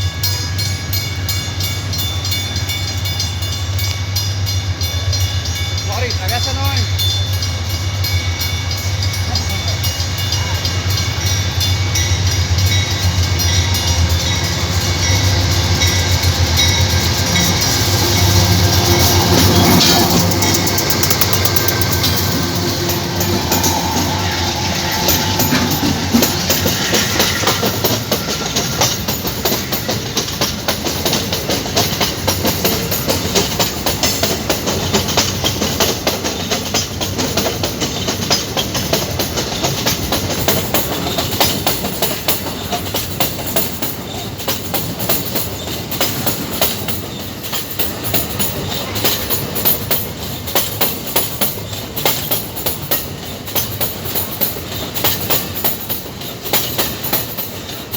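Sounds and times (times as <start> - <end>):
train wheels clattering over rail joints: 9.9 - 57.9.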